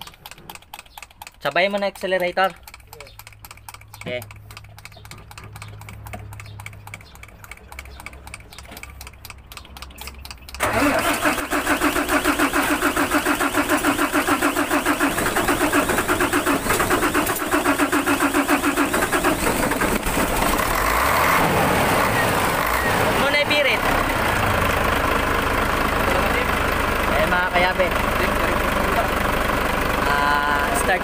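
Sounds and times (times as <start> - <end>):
diesel engine starting and running: 0.0 - 31.0.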